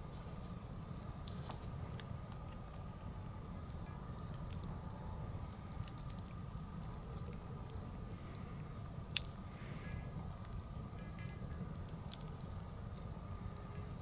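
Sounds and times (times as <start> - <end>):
bonfire crackling and popping: 1.2 - 14.0.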